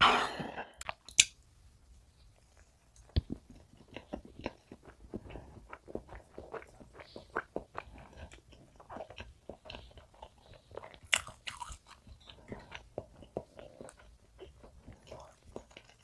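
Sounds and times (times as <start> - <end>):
chewing with wet mouth clicks: 2.4 - 16.0.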